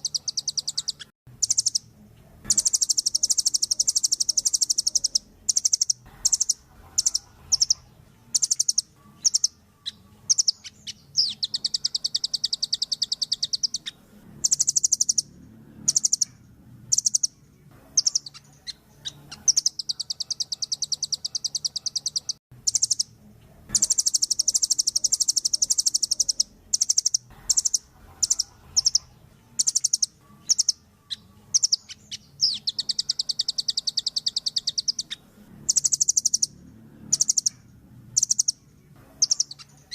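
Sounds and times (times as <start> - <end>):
bird high sharp calls: 0.0 - 1.9, 2.5 - 17.4, 18.0 - 23.1, 23.7 - 37.6, 39.2 - 39.9
bird rapid trills: 0.0 - 1.9, 2.5 - 17.4, 18.0 - 23.1, 23.7 - 30.8, 31.5 - 37.6, 38.2 - 38.6, 39.2 - 39.9.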